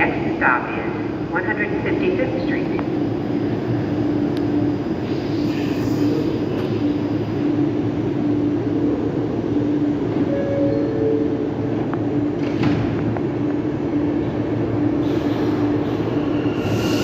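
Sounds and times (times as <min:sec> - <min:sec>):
subway car equipment humming: 0:00.0 - 0:17.0.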